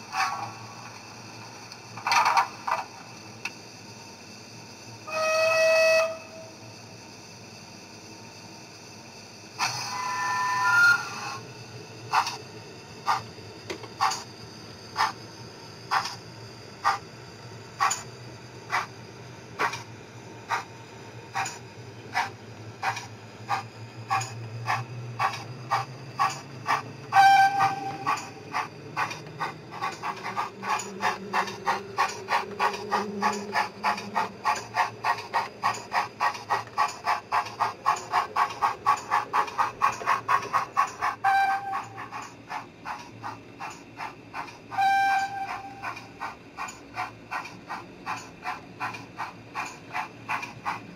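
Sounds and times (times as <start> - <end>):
model steam locomotive chuffs: 0.0 - 50.9.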